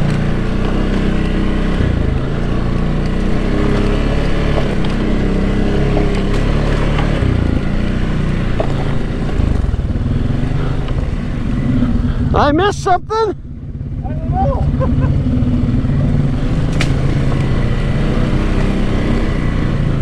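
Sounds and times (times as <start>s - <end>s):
atv engine revving: 0.0s - 20.0s.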